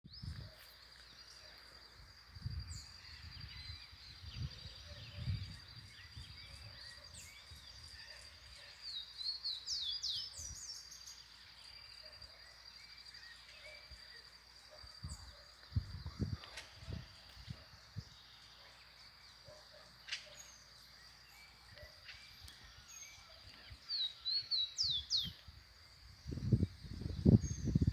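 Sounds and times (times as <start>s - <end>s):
birds chirping and singing: 0.1s - 27.9s.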